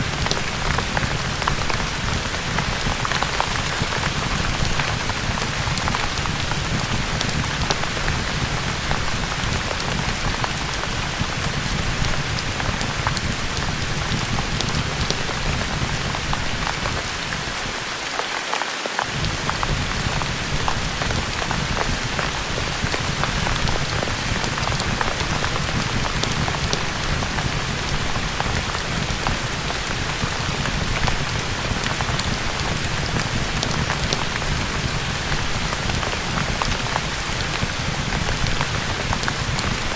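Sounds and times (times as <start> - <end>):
heavy rain patter: 0.0 - 39.9.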